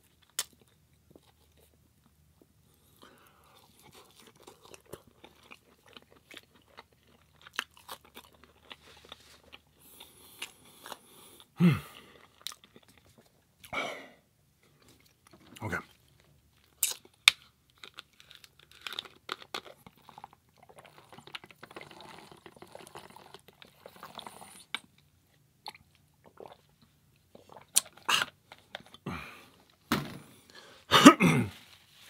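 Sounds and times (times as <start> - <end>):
person chewing and crunching: 0.0 - 13.8, 14.7 - 29.8.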